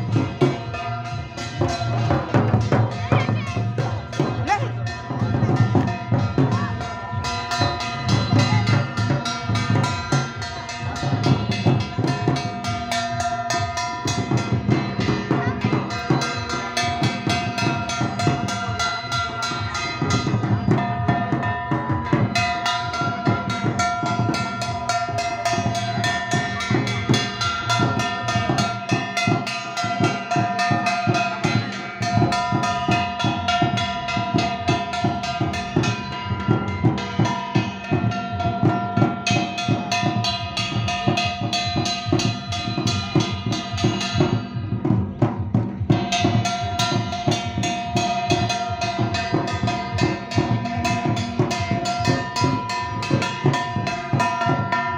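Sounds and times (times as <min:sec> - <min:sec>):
fast drumming: 0:00.0 - 0:54.9.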